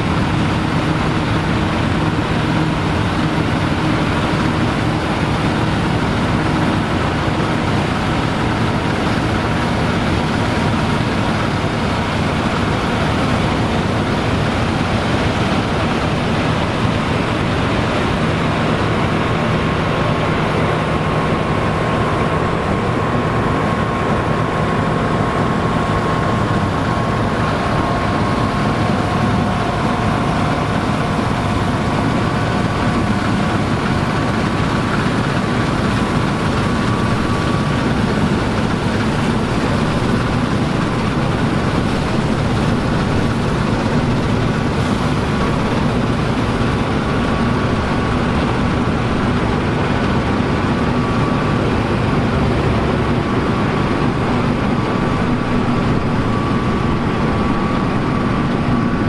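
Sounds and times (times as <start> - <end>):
diesel engine drone: 0.0 - 59.0
thin whine: 0.0 - 59.0.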